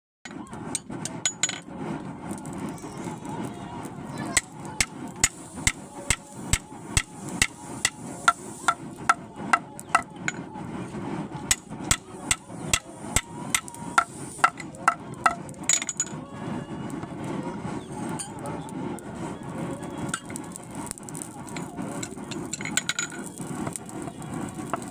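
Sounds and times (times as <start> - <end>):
low rumble: 0.5 - 24.9.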